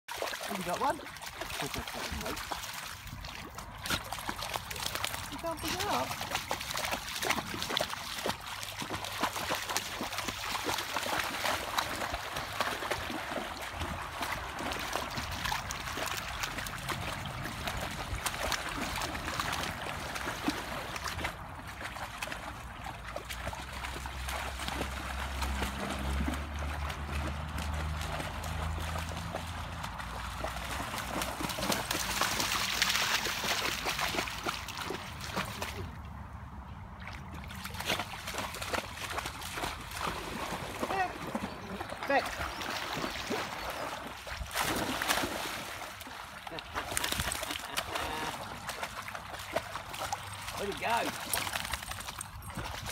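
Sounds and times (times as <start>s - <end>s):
dogs splashing through water: 0.1s - 52.9s
stream flowing: 0.1s - 52.9s.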